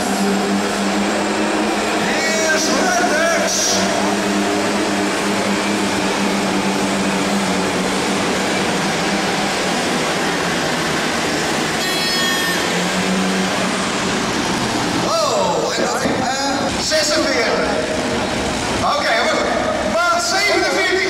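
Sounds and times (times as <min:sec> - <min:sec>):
tractor engine under full load: 0:00.0 - 0:20.9
tyres roaring on dirt: 0:00.0 - 0:21.0.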